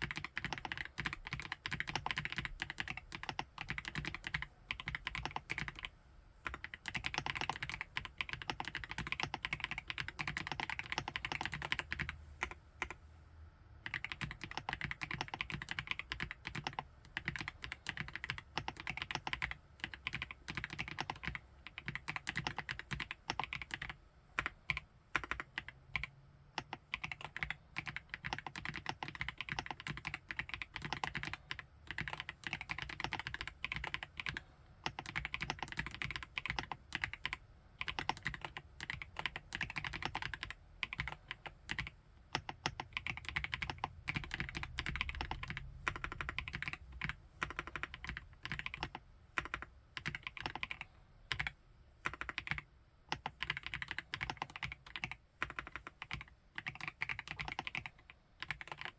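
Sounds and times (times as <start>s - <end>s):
mechanical keyboard typing: 0.0s - 13.0s, 13.8s - 58.9s.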